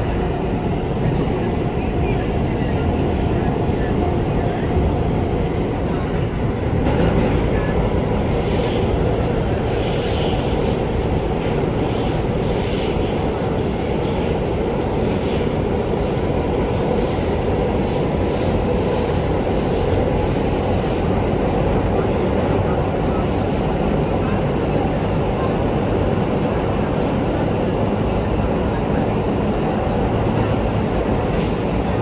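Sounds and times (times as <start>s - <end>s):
rumble of wheels on rail: 0.0s - 32.0s.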